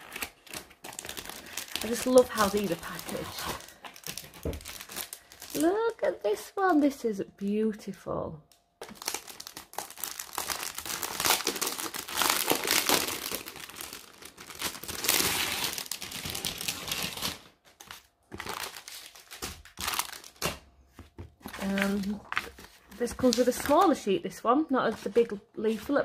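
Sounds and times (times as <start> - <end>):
plastic wrapping crinkling: 0.0 - 7.0, 8.8 - 24.2.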